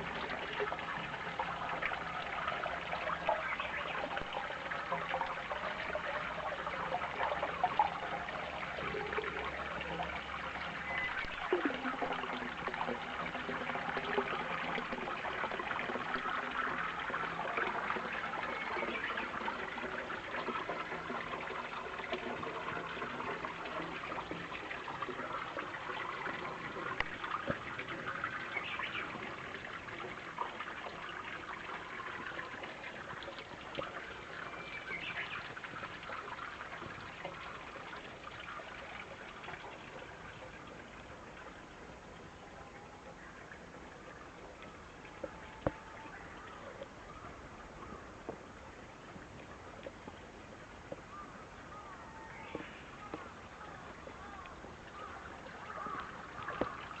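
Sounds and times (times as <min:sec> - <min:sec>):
spring water trickling: 0:00.0 - 0:57.0.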